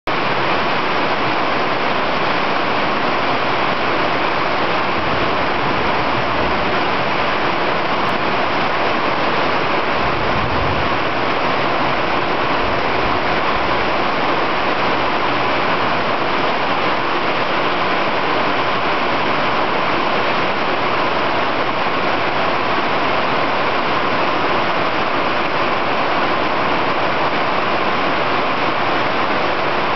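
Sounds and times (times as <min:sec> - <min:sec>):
running water: 0:00.1 - 0:29.9
torrential rain: 0:00.1 - 0:29.9.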